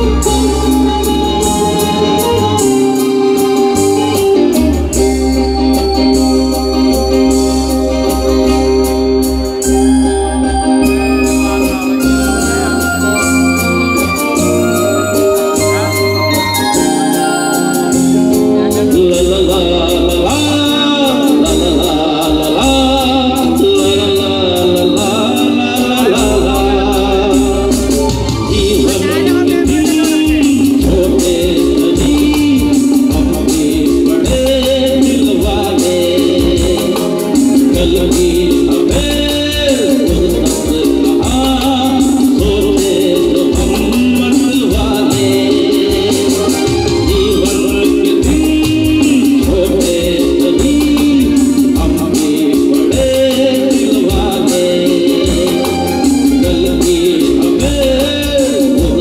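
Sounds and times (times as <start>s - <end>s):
electric guitars: 0.0s - 59.0s
keyboards: 0.0s - 59.0s
live band music: 0.0s - 59.0s
man singing: 0.0s - 59.0s
steady beat: 0.0s - 59.0s.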